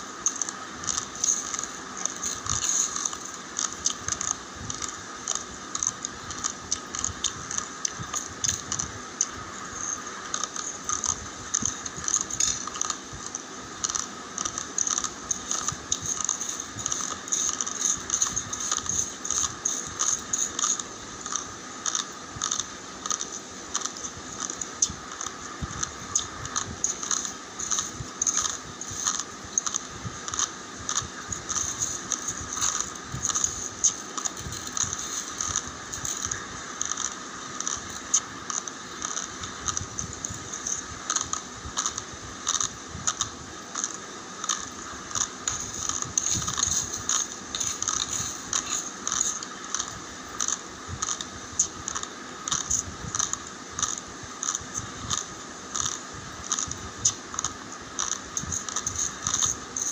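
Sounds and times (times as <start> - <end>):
dry rice crunching and crackling: 0.0 - 9.4, 10.1 - 59.9.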